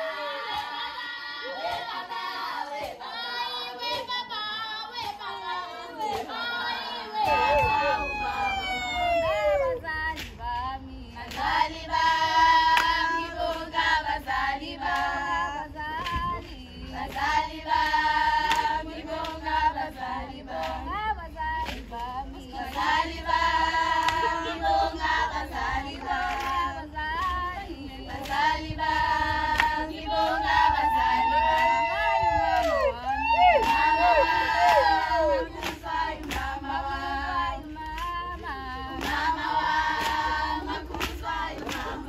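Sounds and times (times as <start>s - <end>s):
women singing in chorus: 0.0s - 42.0s.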